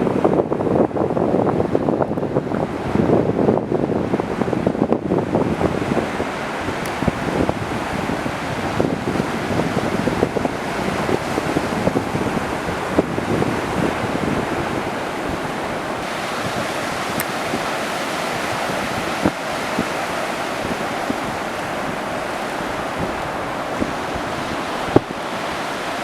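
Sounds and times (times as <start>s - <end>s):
wind buffeting microphone: 0.0s - 26.0s
waves breaking: 1.6s - 26.0s.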